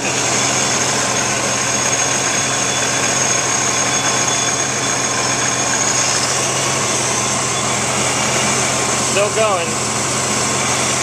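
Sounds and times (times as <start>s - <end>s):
car engine idling: 0.0s - 11.0s
electric radiator fan rushing: 0.0s - 11.0s.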